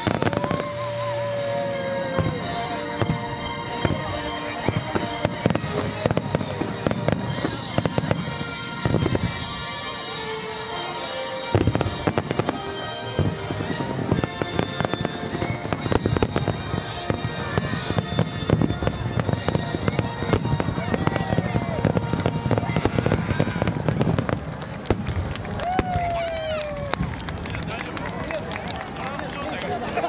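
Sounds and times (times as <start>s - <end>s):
music playing: 0.0s - 24.3s
firework bangs and crackles: 0.0s - 30.0s.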